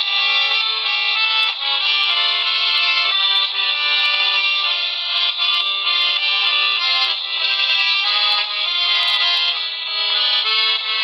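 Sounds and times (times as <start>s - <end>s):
accordion melody: 0.0s - 11.0s.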